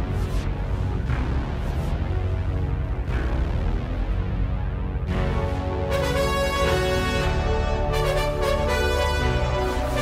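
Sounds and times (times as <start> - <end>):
music with held notes: 0.0 - 10.0
steady low bass: 0.0 - 10.0.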